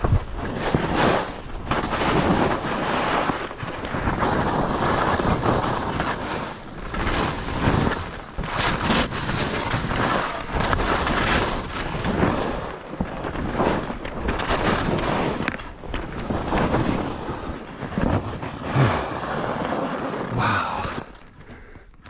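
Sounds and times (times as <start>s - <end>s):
skis scraping on snow: 0.1s - 21.4s.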